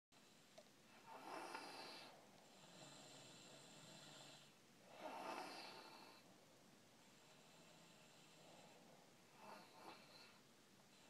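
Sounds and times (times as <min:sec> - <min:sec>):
baby snoring faintly: 0:00.2 - 0:06.3, 0:07.2 - 0:11.0.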